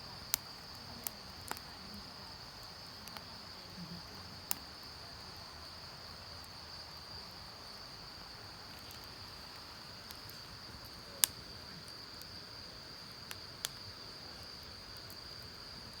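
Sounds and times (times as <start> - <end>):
campfire crackling and popping: 0.0 - 16.0
insects chirring: 0.0 - 16.0.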